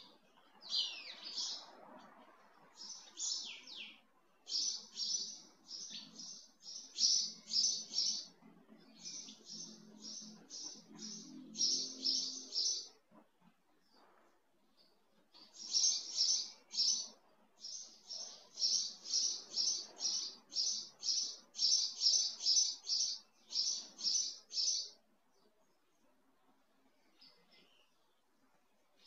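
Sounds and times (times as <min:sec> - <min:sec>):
small bird chirping: 0:00.0 - 0:01.8, 0:02.8 - 0:13.1, 0:13.7 - 0:25.9.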